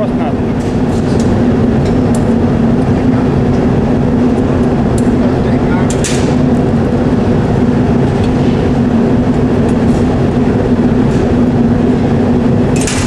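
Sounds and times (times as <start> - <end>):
furnace burners rushing: 0.0 - 13.0
steady hum: 0.0 - 13.0.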